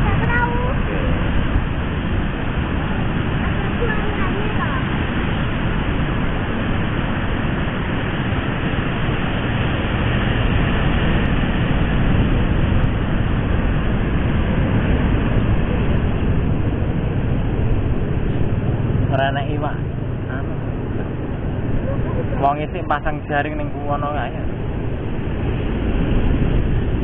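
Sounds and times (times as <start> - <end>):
surf breaking on beach: 0.0 - 27.0
wind rumbling on microphone: 0.0 - 27.0.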